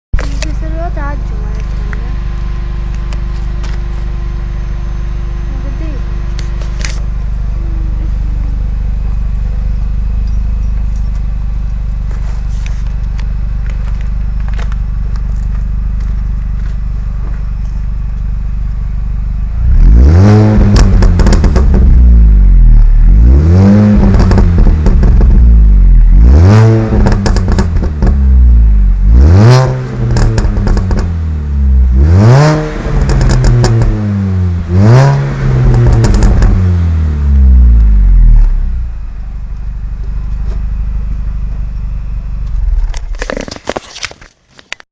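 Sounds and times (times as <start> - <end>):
car engine idling and revving: 0.1 - 44.8.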